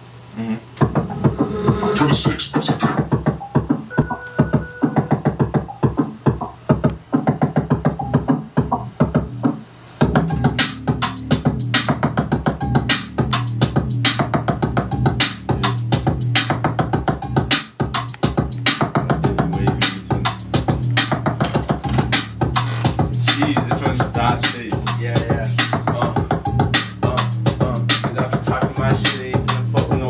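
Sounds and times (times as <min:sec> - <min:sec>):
hip-hop beat: 0:00.8 - 0:30.0.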